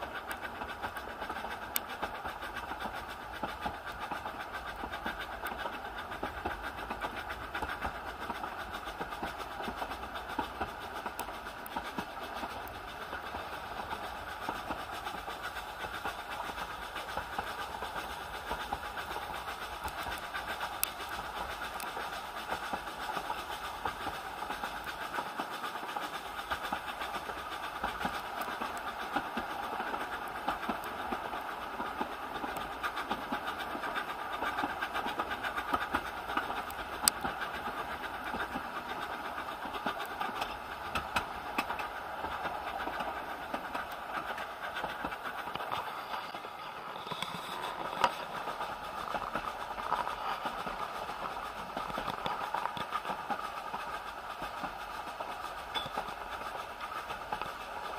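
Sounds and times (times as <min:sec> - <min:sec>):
train carriage rumbling and rattling: 0:00.0 - 0:57.9.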